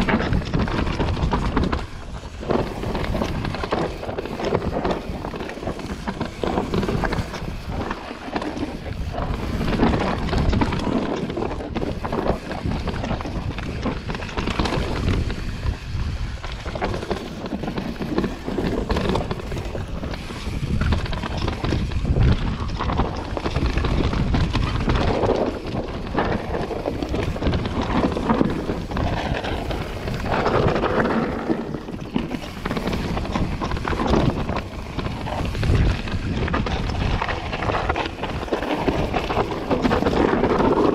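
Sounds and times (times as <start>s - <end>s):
bike rattling and knocking: 0.0s - 40.9s
tyres on dirt: 0.0s - 40.9s
wind rushing over microphone: 0.0s - 40.9s.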